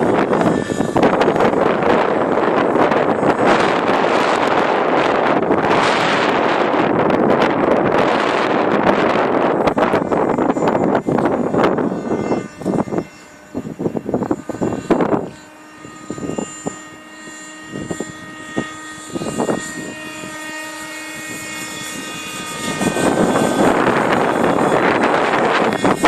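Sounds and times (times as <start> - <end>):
rc helicopter engine whine: 0.0 - 26.0
wind gusts: 0.0 - 26.0.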